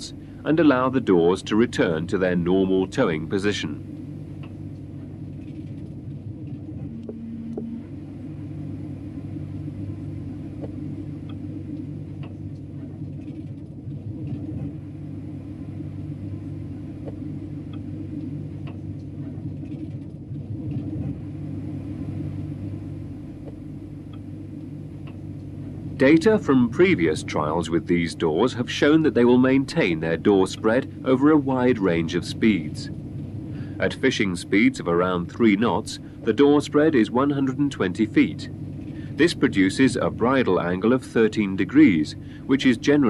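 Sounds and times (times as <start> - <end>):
low machinery rumble and hum: 0.0 - 43.0.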